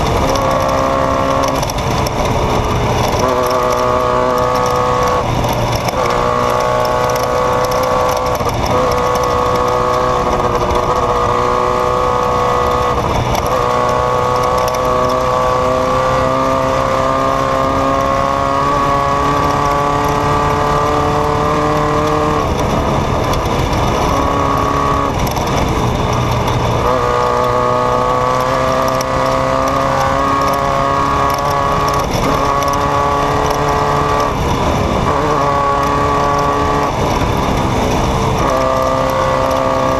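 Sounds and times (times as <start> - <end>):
off-road vehicle engine droning: 0.0 - 39.9
rough noisy rumble: 0.0 - 39.9.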